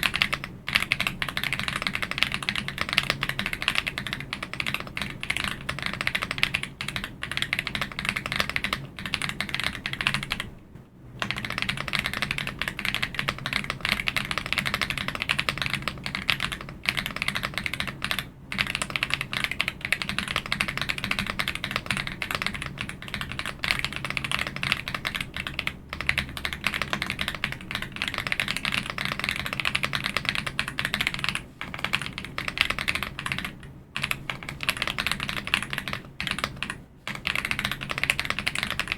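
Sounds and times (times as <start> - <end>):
mechanical keyboard typing: 0.0 - 10.5, 11.2 - 38.9.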